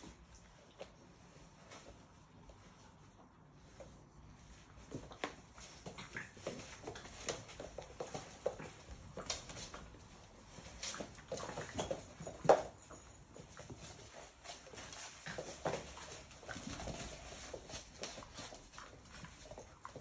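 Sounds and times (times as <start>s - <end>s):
puppy claws scrabbling on floor: 3.6s - 20.0s.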